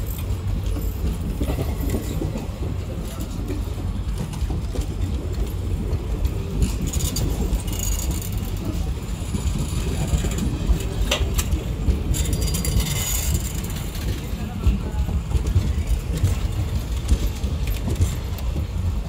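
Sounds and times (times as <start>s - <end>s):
train coaches rolling past: 0.0s - 19.0s
wheels clacking over rail joints: 0.0s - 19.0s.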